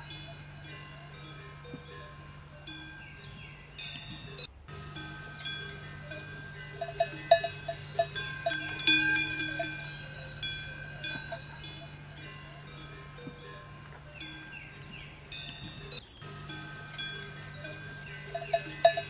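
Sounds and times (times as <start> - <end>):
metal bells ringing and clanking: 0.0 - 19.0
steady low hum: 0.0 - 19.0.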